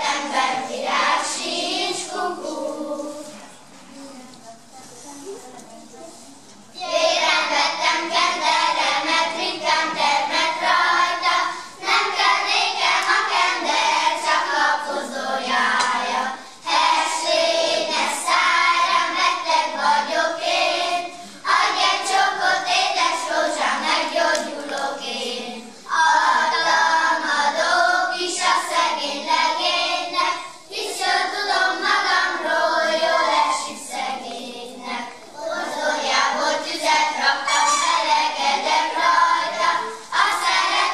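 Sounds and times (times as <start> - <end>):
children singing folk song: 0.0 - 4.1, 6.7 - 40.9.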